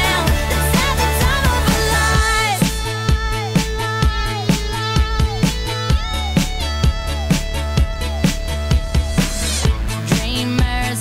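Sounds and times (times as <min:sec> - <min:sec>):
music with drum beat and bass: 0:00.0 - 0:11.0.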